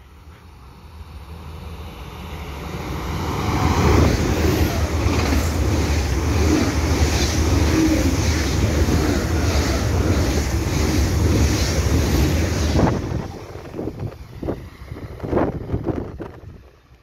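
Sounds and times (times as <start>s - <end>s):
train wheels on rails: 0.0s - 17.0s
rushing air: 1.2s - 17.0s.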